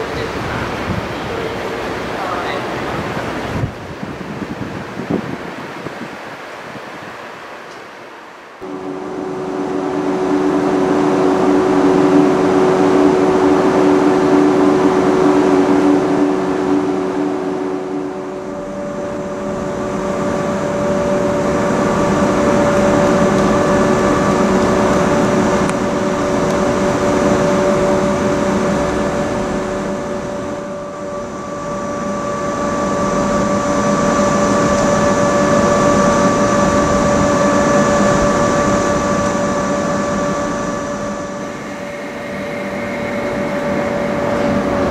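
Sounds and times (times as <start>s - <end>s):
electric train equipment humming: 0.0s - 44.9s.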